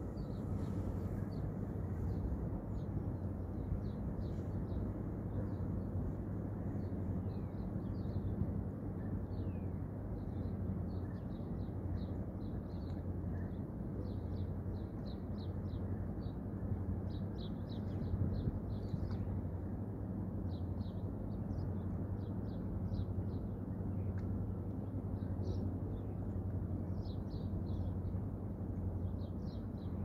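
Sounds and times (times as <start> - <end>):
faint even hum: 0.0 - 30.0
steady low rumble: 0.0 - 30.0.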